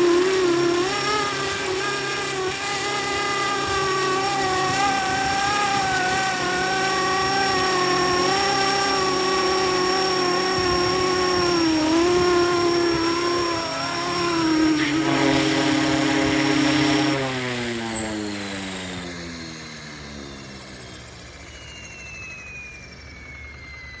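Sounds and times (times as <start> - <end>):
helicopter motor whine: 0.0 - 24.0
rotor winding down: 0.0 - 24.0.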